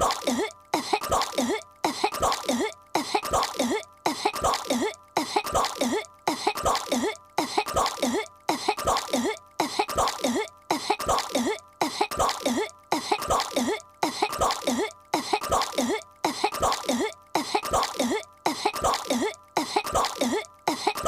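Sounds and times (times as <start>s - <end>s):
cartoon girl coughing: 0.0s - 21.0s.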